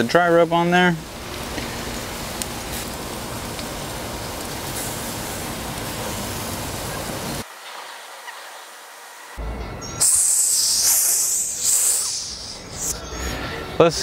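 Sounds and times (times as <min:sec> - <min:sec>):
chicken wings sizzling on grill: 0:00.0 - 0:09.4, 0:10.0 - 0:14.0.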